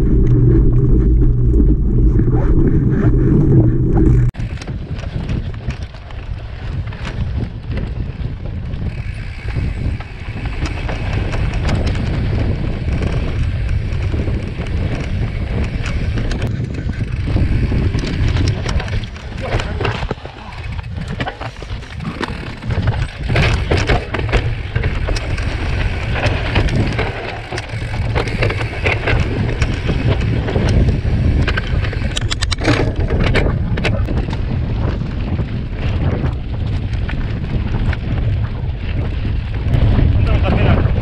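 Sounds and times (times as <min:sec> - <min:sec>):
bike rattling over bumps: 0:00.0 - 0:41.0
wind buffeting microphone: 0:00.0 - 0:41.0.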